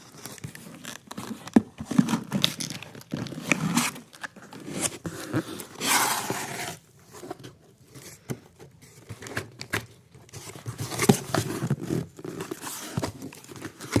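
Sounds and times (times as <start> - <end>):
plastic and paper rustling: 0.0 - 14.0.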